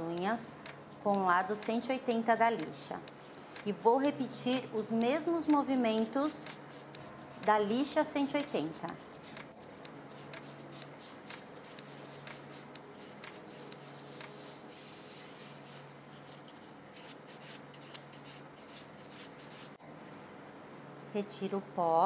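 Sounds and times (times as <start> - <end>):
nail buffer scratching on nails: 0.9 - 19.8.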